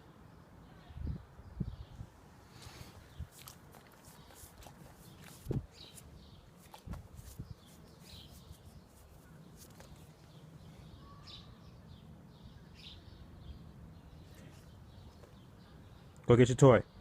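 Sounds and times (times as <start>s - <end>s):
birds chirping: 0.7s - 17.0s.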